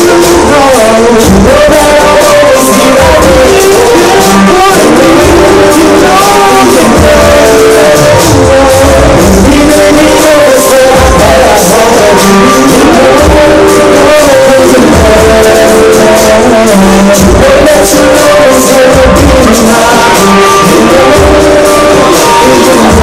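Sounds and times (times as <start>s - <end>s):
drums and cymbals beat: 0.0s - 23.0s
man singing: 0.0s - 23.0s.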